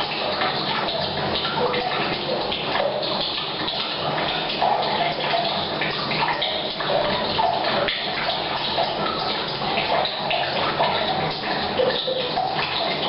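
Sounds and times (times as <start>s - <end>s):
water pouring into a tank: 0.0s - 13.0s.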